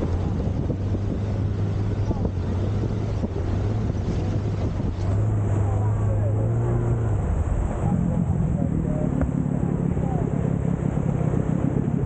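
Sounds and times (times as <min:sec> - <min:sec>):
outboard motor running: 0:00.0 - 0:12.0
rushing river water: 0:00.0 - 0:12.0
wind buffeting microphone: 0:00.0 - 0:12.0.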